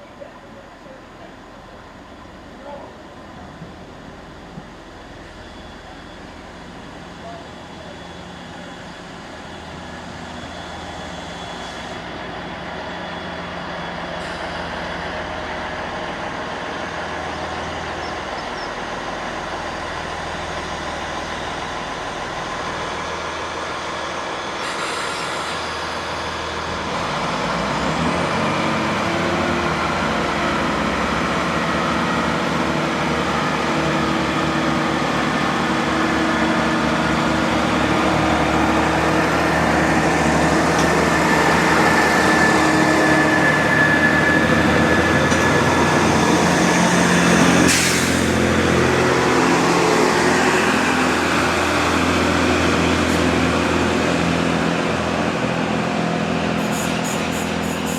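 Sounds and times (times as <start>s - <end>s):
diesel train approaching: 0.0s - 57.9s.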